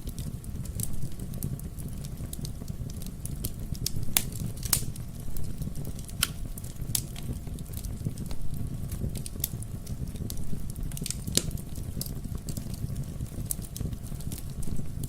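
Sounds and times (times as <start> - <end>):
burning wood crackling and popping: 0.0 - 15.0
fire rumbling in fireplace: 0.0 - 15.0.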